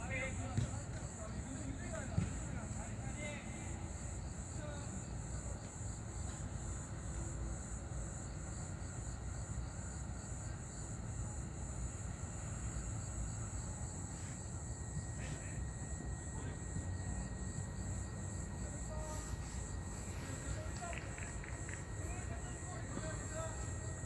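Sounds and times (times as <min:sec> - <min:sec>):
insects trilling: 0:03.2 - 0:24.0.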